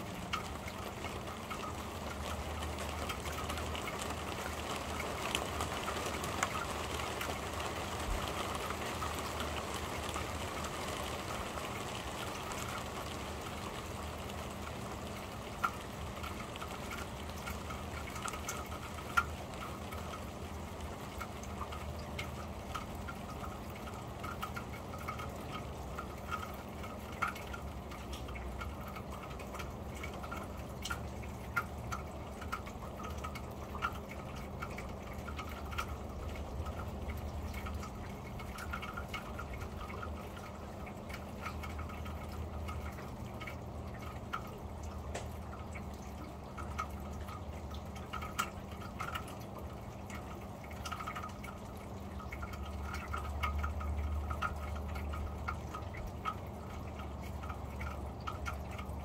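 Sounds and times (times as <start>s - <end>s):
drops ticking and dripping: 0.0s - 59.0s
rain on a metal roof: 0.0s - 59.0s.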